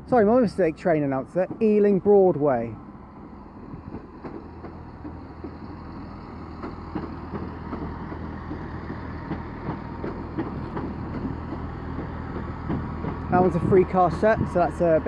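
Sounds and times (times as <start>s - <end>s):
train engine drone: 0.0s - 15.0s
wheels clicking on track: 0.0s - 15.0s.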